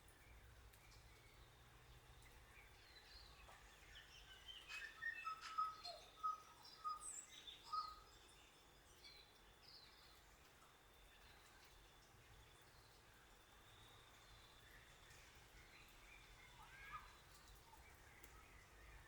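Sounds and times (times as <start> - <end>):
light rain hiss: 0.0 - 19.0.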